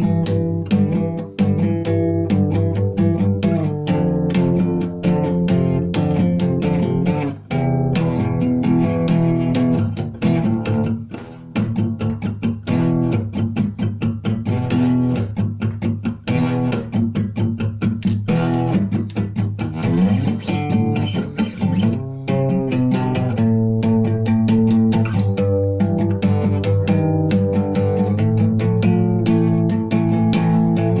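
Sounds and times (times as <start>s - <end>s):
plucked guitar: 0.0s - 31.0s.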